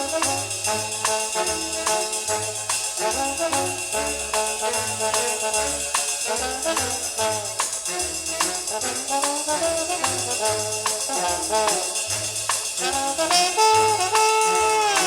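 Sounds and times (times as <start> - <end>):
held horn notes: 0.0 - 15.0
moving bass line: 0.0 - 15.0
steady tambourine beat: 0.0 - 15.0.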